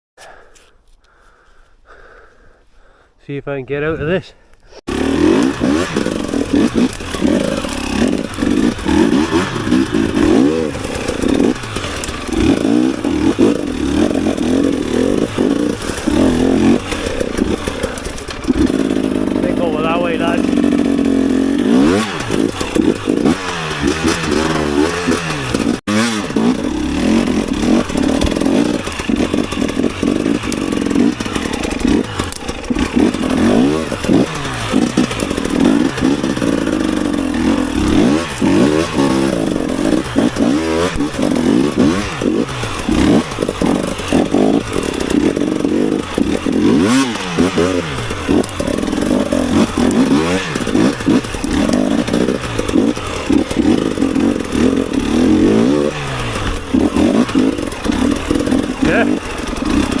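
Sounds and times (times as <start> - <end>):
bike rattling and scraping: 4.6 - 60.0
dirt bike engine revving: 4.8 - 60.0.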